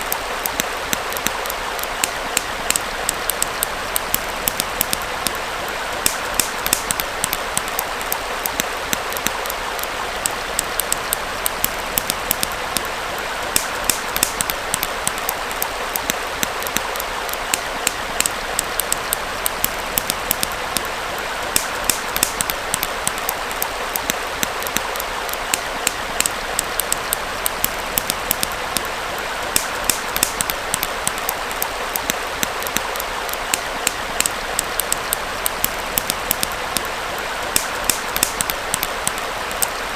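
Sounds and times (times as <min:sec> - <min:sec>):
campfire crackling: 0:00.0 - 0:39.9
small stream rushing: 0:00.0 - 0:39.9.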